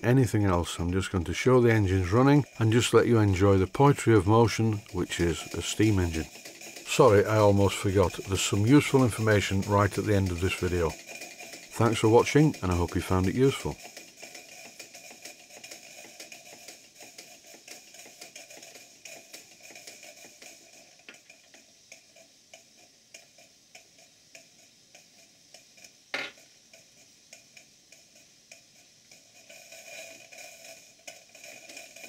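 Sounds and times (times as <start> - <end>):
model steam engine ticking: 0.0 - 32.0
soft steady steam hiss: 0.0 - 32.0.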